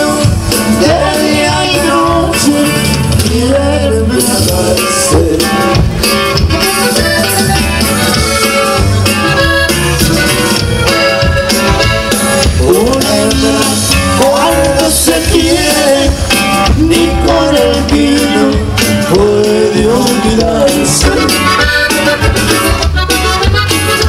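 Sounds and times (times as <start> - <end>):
accordion: 0.0 - 24.0
live band dance music: 0.0 - 24.0.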